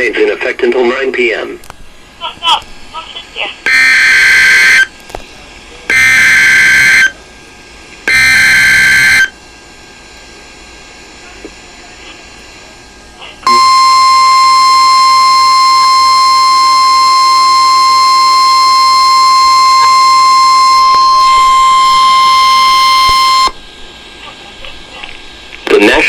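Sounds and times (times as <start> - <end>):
loud steady warning alarm tone: 2.2 - 24.5.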